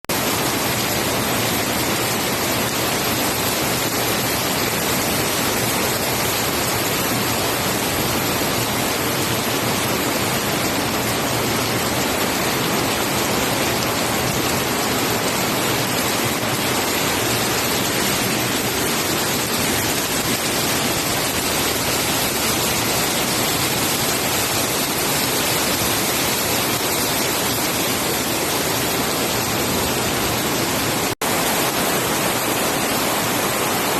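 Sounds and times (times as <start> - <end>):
floodwater rushing: 0.2 - 33.9.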